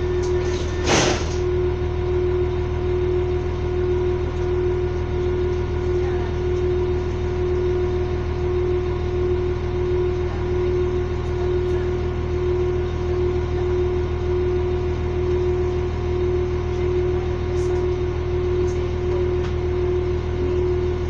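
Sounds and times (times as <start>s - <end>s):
train machinery humming: 0.0s - 21.0s.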